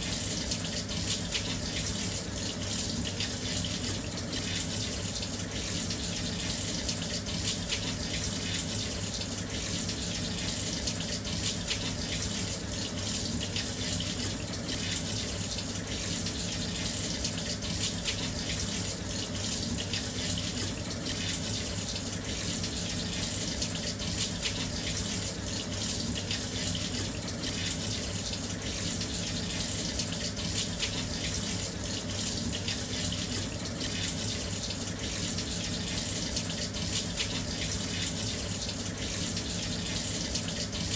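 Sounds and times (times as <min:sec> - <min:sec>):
water rushing into washing machine: 0:00.0 - 0:40.9.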